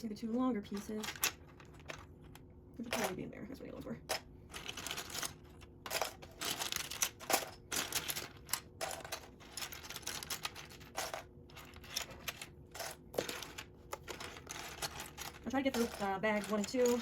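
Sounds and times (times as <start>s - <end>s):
plastic bricks clattering: 0.7s - 3.2s, 4.1s - 17.0s.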